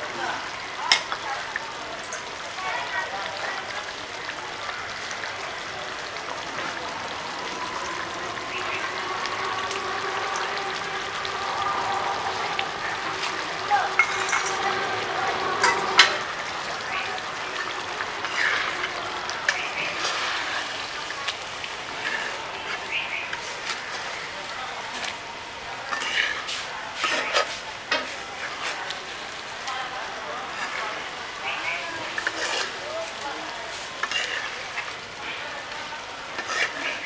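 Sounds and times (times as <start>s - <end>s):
curry sizzling in a wok: 0.0s - 37.0s.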